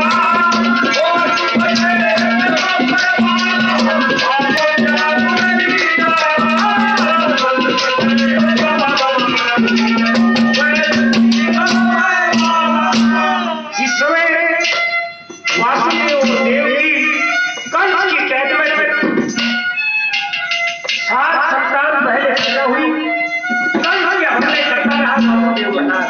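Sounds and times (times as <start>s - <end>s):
hand drums: 0.0s - 14.0s, 14.6s - 26.0s
jingling rattle percussion: 0.0s - 14.0s, 14.6s - 18.3s, 19.0s - 26.0s
harmonium melody: 0.0s - 26.0s.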